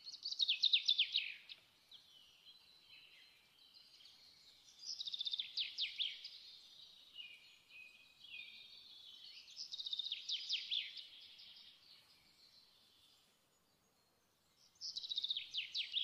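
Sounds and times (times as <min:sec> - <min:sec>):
soft bird twittering: 0:00.1 - 0:16.0.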